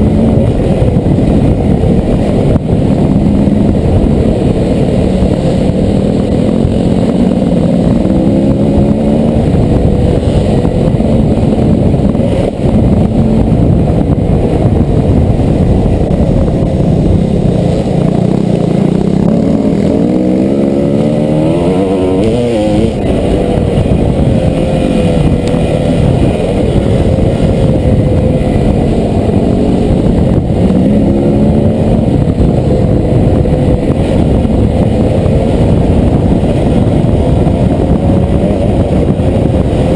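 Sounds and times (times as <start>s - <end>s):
dirt bike engine revving: 0.0s - 39.9s
wind rushing: 0.0s - 39.9s.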